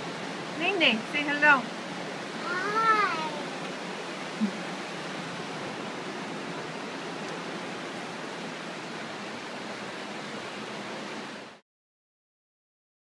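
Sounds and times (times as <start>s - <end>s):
whitewater river rushing over rocks: 0.0s - 11.6s.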